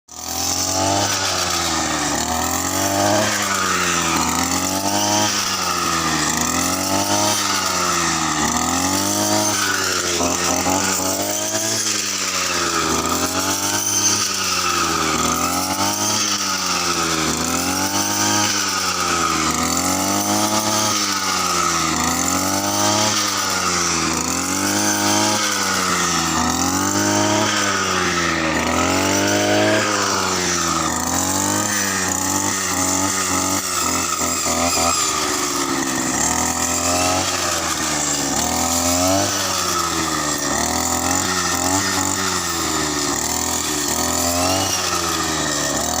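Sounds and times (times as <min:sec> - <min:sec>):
brush cutter engine cutting wheat: 0:00.0 - 0:46.0.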